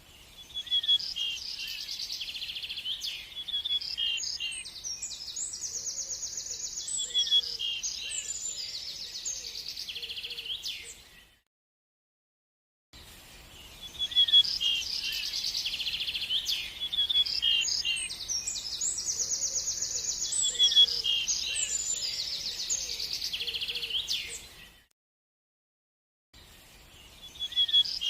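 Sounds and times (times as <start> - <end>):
songbird singing: 0.0 - 11.5, 13.0 - 24.9, 26.4 - 28.0.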